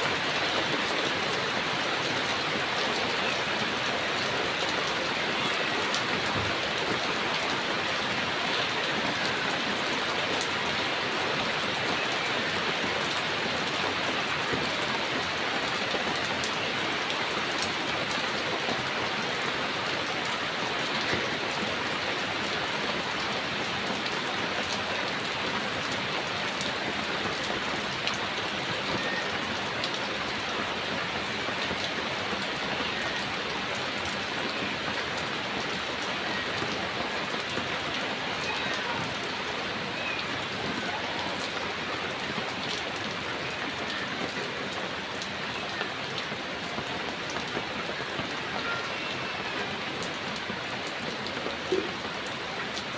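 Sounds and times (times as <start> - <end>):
raindrops pattering on surfaces: 0.0 - 52.9.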